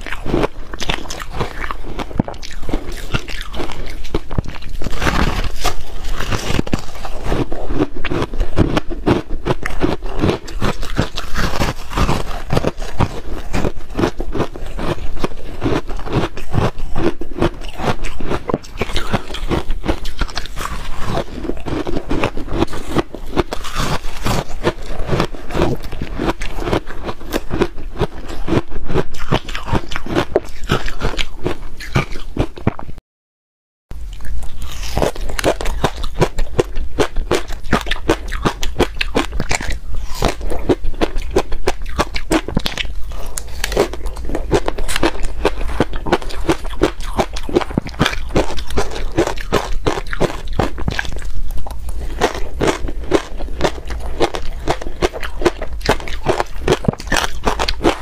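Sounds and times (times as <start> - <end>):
ice being chewed: 0.0 - 32.9, 34.1 - 58.0.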